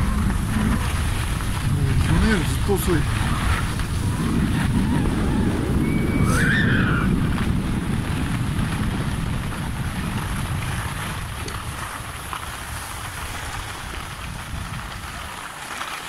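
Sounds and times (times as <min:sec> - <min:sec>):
wind on microphone: 0:00.0 - 0:15.4
skis on packed snow: 0:00.0 - 0:16.0.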